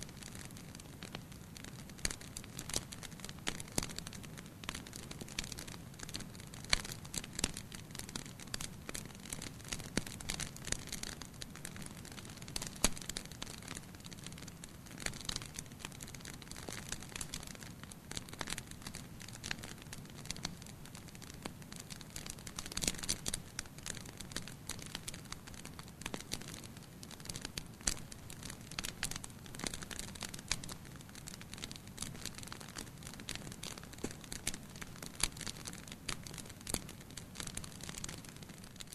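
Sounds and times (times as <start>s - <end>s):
logs crackling and popping: 0.0s - 38.9s.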